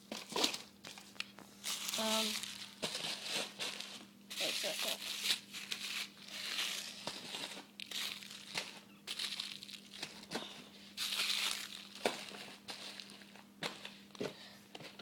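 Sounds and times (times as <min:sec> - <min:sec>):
plastic packaging crinkling: 0:00.1 - 0:13.5.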